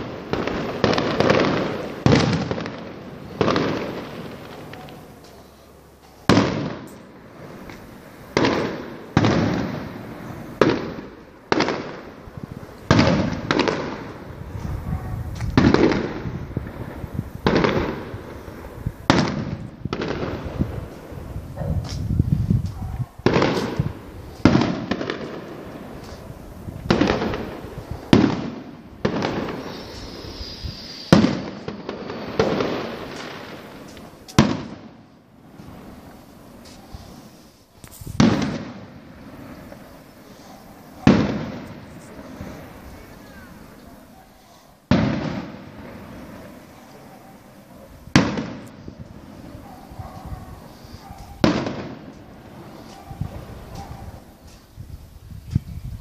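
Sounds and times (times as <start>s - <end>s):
firework shells bursting: 0.0s - 5.4s, 6.0s - 22.6s, 23.2s - 43.9s, 50.6s - 54.7s.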